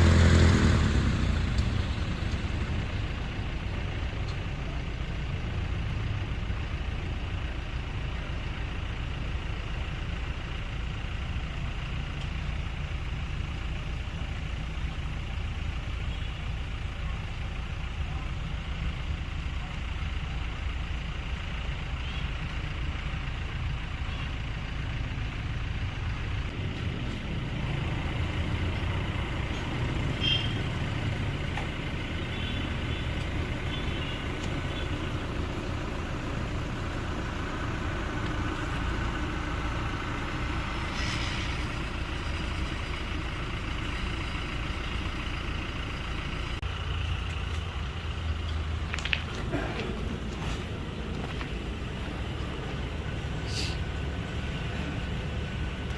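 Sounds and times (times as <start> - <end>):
engine rumbling: 0.0 - 55.9.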